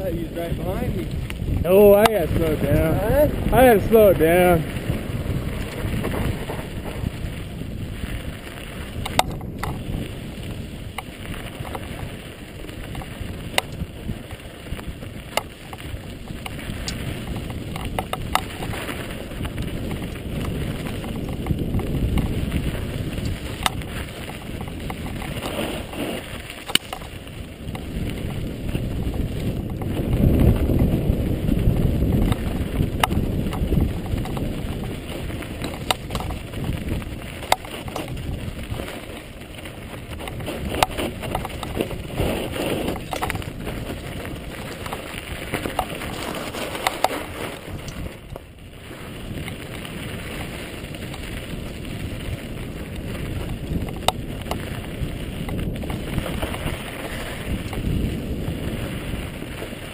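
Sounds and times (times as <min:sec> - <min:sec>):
bike knocking and rattling: 0:00.0 - 0:59.9
tyres crunching over gravel: 0:00.0 - 0:59.9
wind rushing over microphone: 0:00.0 - 0:59.9.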